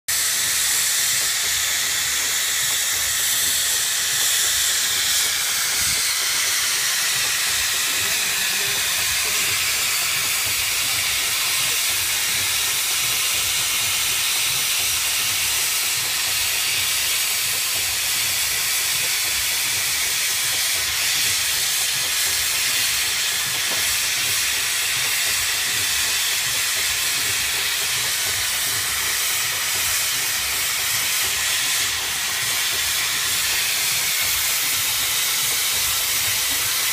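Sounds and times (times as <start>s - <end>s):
steam hissing: 0.1s - 36.9s.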